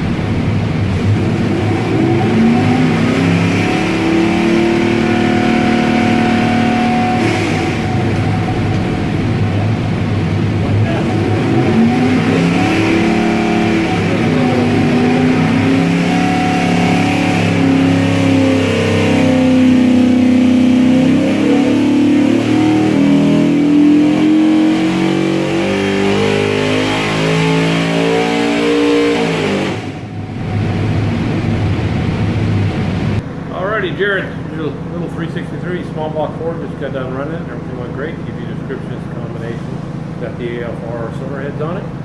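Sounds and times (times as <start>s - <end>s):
engine revving under load: 0.0s - 42.0s.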